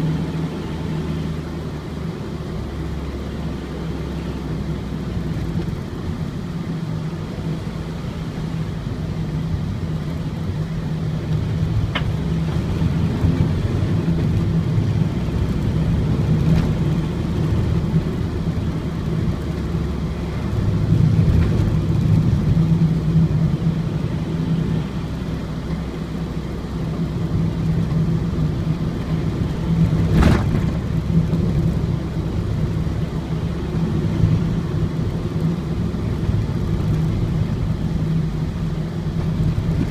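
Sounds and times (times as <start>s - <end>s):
diesel engine drone: 0.0s - 39.9s
road noise: 0.0s - 39.9s.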